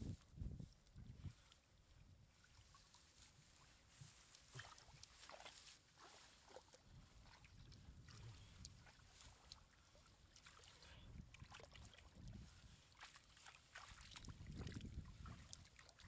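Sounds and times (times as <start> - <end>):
shallow water sloshing and splashing: 0.1 - 16.0.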